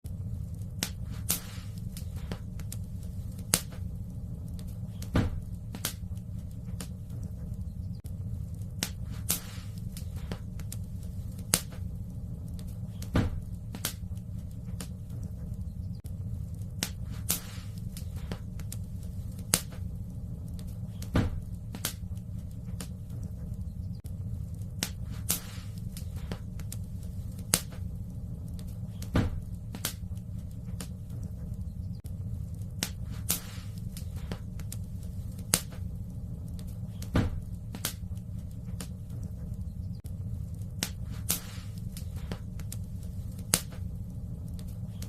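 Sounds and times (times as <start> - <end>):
fireplace fire crackling and popping: 0.0 - 45.0
low rumble: 0.0 - 45.0.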